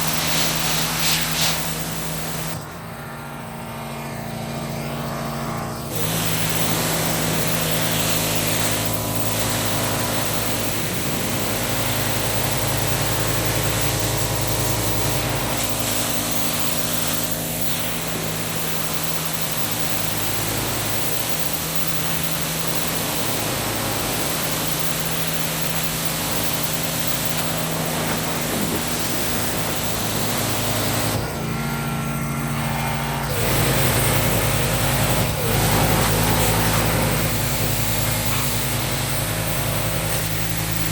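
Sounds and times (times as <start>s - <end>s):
high-pressure water spray hissing: 0.0s - 40.9s
pressure washer engine hum: 0.0s - 40.9s.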